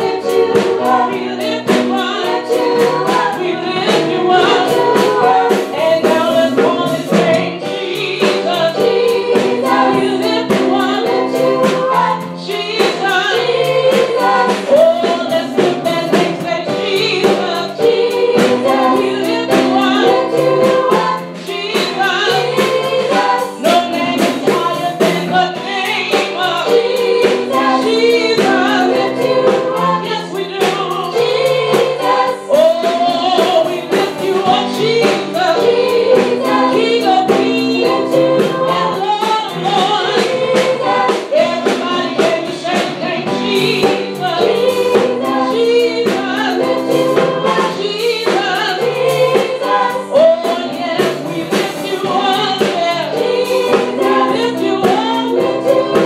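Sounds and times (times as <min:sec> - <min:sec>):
instrumental accompaniment with beat: 0:00.0 - 0:56.0
women singing gospel: 0:00.0 - 0:56.0.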